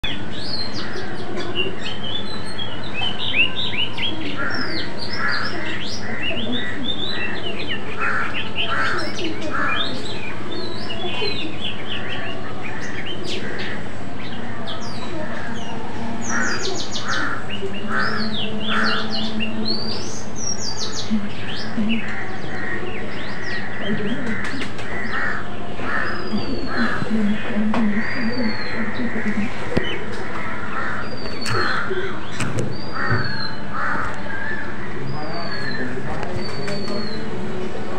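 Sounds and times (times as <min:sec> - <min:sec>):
birds chirping and whistling: 0:00.0 - 0:37.9.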